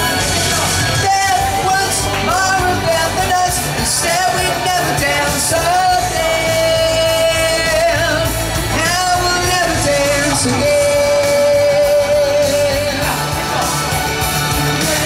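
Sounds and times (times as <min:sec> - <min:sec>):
man singing into microphone: 0:00.0 - 0:13.9, 0:14.7 - 0:15.0
rock accompaniment: 0:00.0 - 0:15.0.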